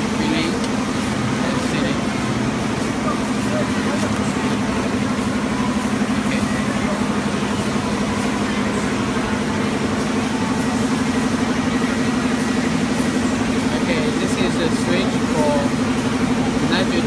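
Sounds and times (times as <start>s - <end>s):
motor and pump hum: 0.0s - 17.0s.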